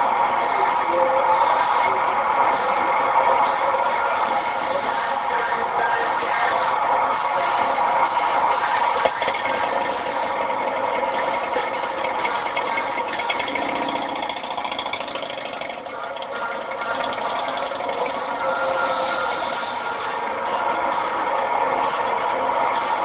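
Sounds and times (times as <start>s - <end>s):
motorcycle engines idling: 0.0s - 23.0s.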